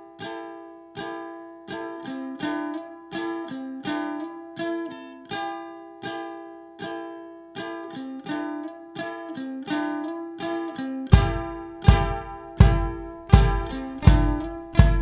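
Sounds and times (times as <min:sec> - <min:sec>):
strummed string instrument chords: 0:00.0 - 0:15.0.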